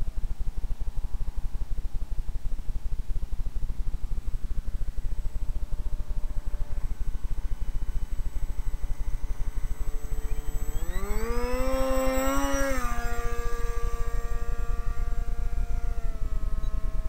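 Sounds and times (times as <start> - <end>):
model motor and propeller whine: 0.0 - 17.0.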